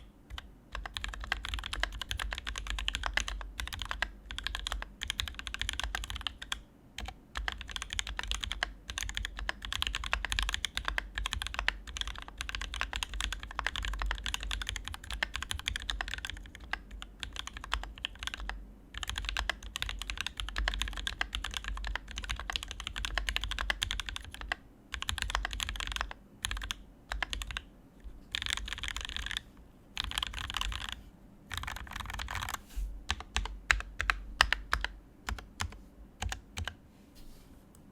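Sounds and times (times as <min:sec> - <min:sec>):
fast mechanical keyboard typing: 0:00.0 - 0:27.7, 0:28.3 - 0:36.8.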